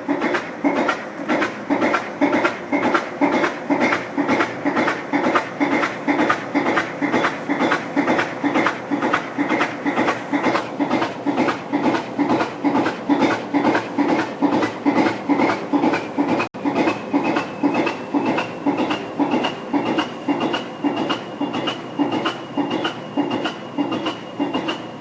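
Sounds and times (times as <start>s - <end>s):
diesel locomotive engine pulsing: 0.0s - 25.0s.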